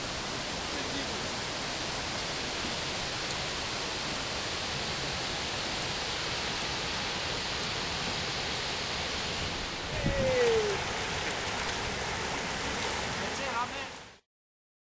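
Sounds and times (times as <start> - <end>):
river water rushing: 0.0 - 14.2.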